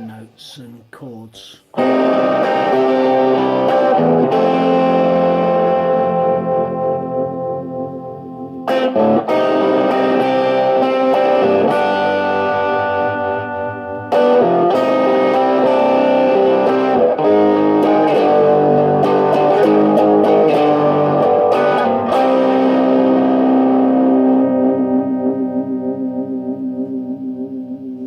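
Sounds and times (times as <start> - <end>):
electric guitar with phaser: 1.8 - 28.0.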